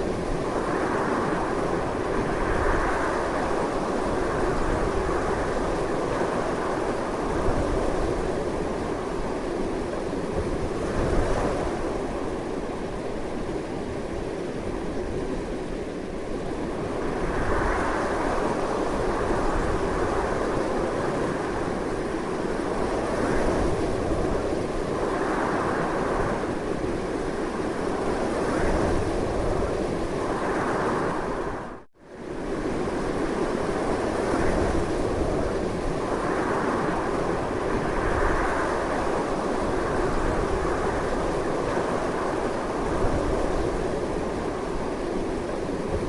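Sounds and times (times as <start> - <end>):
strong gusty wind: 0.0 - 46.0.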